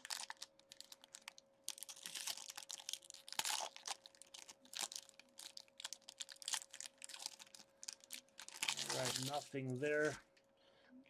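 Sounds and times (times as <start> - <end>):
foil wrapper crinkling: 0.0 - 10.2
faint steady hum: 0.0 - 11.0.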